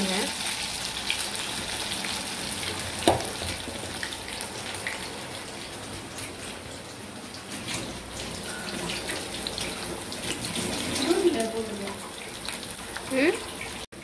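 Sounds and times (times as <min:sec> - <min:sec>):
food deep-frying in hot oil: 0:00.0 - 0:14.0.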